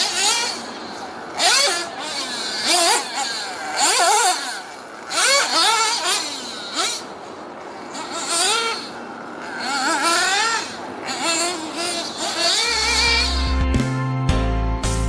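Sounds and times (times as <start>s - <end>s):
nitro engine revving: 0.0s - 13.8s.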